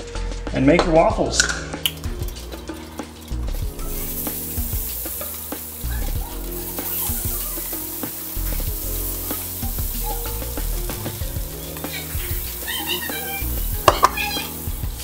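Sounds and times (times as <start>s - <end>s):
background music: 0.0s - 15.0s
waffle batter sizzling: 1.9s - 15.0s.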